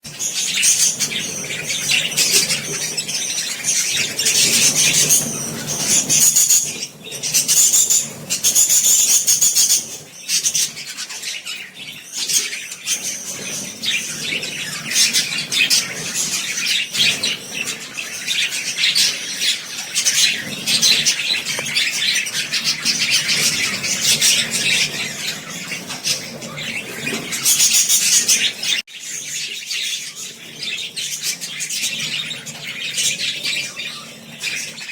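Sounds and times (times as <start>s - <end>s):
lovebirds chirping: 0.1s - 34.9s.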